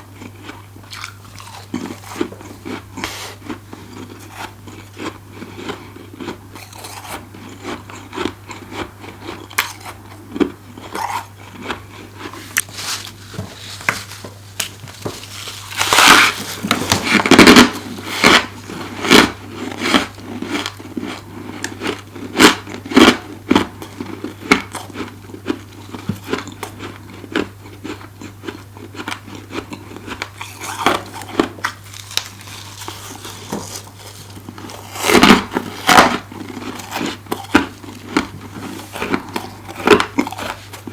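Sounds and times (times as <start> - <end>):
chewing crunchy frost: 0.0 - 40.9.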